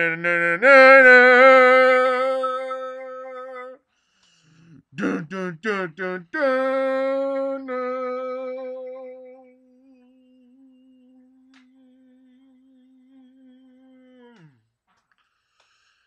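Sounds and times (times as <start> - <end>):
man humming a held note: 0.0 - 3.8, 5.0 - 14.6.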